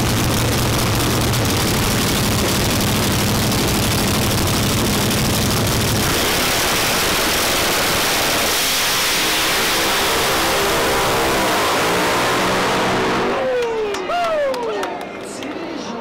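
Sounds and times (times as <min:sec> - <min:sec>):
drag race car engine: 0:00.0 - 0:14.1.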